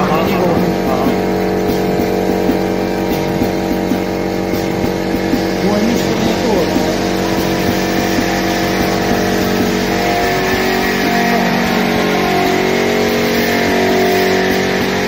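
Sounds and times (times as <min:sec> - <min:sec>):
machine running with mechanical drone: 0:00.0 - 0:15.0.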